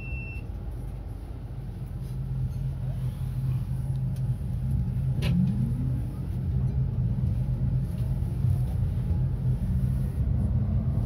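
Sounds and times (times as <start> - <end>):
tram low rumble: 0.0 - 11.0.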